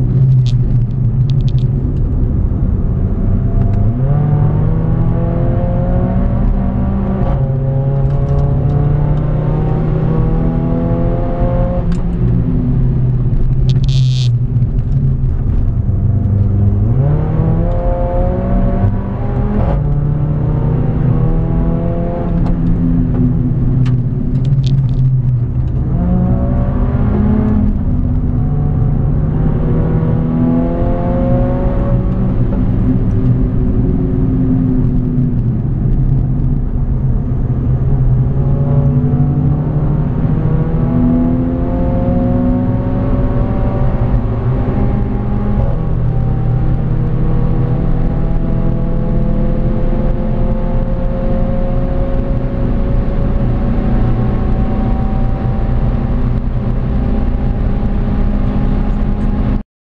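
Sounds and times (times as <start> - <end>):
car engine accelerating hard: 0.0 - 59.6
road and wind rumble: 0.0 - 59.6.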